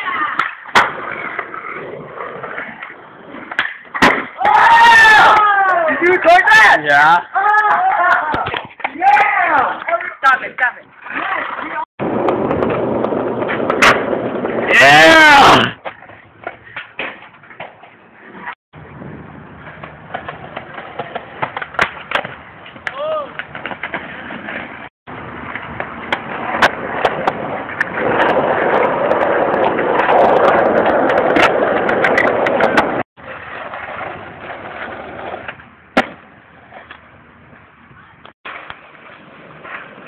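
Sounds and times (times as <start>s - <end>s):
skateboard clacking on ground: 0.0s - 6.2s, 7.4s - 15.2s, 15.8s - 18.6s, 19.5s - 40.0s
skateboard wheels on concrete: 0.0s - 40.0s.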